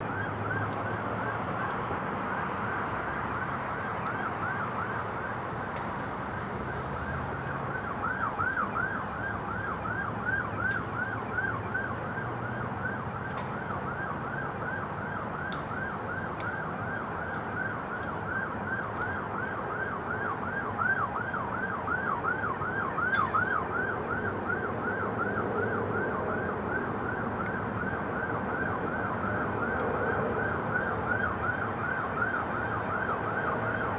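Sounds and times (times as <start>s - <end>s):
emergency siren yelping: 0.0s - 33.9s.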